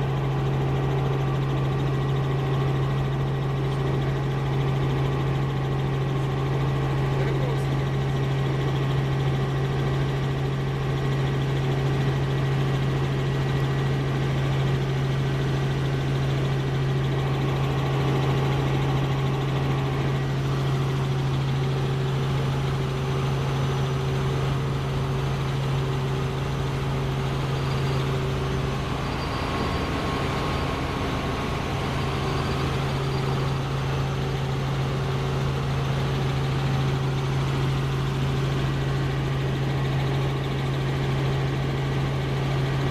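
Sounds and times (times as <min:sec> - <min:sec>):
helicopter drone: 0:00.0 - 0:42.9.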